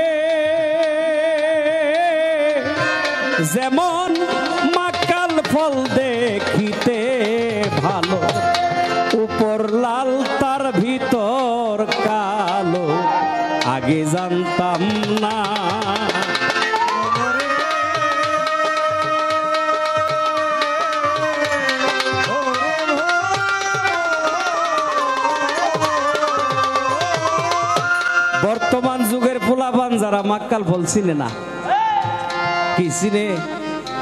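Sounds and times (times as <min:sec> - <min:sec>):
violin ornamented melody: 0:00.0 - 0:34.0
hand drum: 0:00.7 - 0:29.4.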